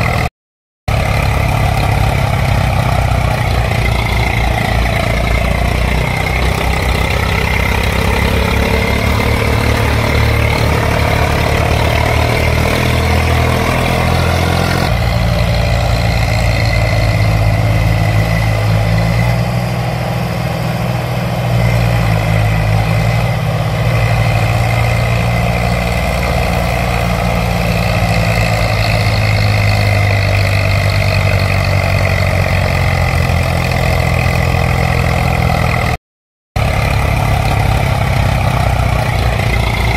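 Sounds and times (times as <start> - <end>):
tractor engine running: 0.0 - 0.3, 0.9 - 36.0, 36.6 - 39.9.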